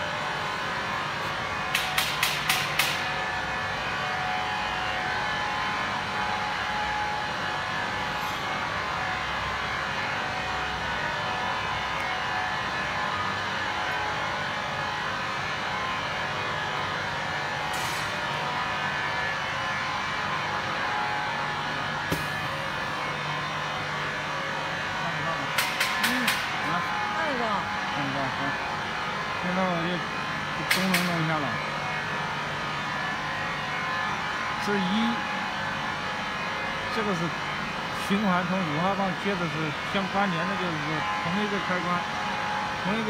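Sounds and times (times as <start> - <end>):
electric motors humming: 0.0 - 43.0.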